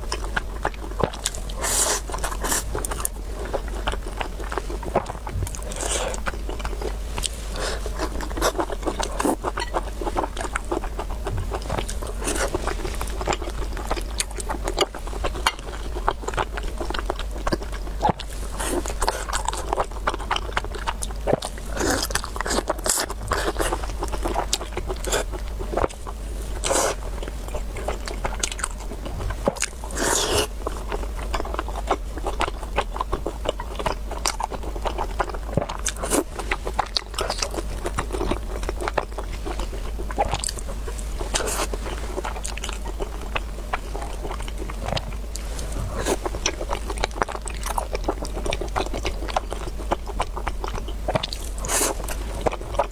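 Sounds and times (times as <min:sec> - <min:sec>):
person chewing and biting: 0:00.0 - 0:52.9
steady low hum: 0:00.0 - 0:52.9.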